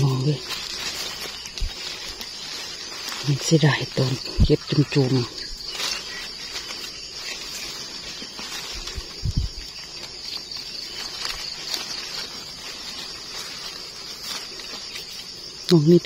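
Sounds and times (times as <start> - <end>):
dry leaves rustling: 0.0 - 16.0
insects droning: 0.0 - 16.0.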